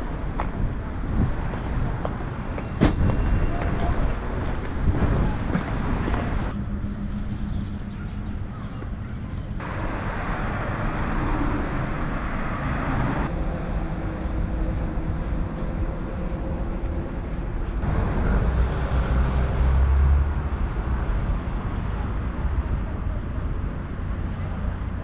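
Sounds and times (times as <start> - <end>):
cars passing on street: 0.0 - 25.0
deep rumble of passing vehicle: 0.0 - 25.0.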